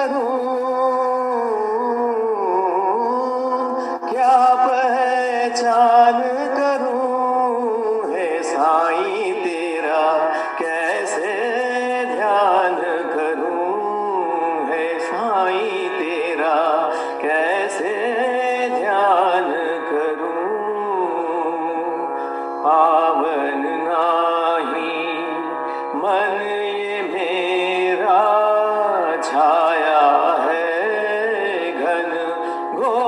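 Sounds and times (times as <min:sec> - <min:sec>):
devotional song melodic interlude: 0:00.0 - 0:33.0.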